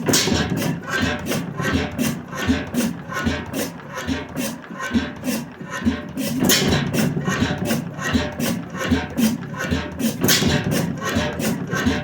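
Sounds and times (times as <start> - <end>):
gas engine clattering: 0.0 - 12.0.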